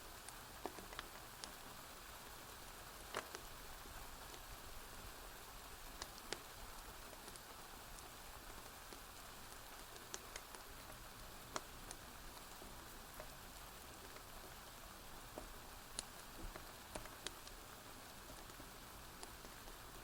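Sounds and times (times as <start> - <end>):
gentle rain falling: 0.0 - 20.0
wood fire crackling and popping: 0.2 - 4.8, 5.6 - 20.0.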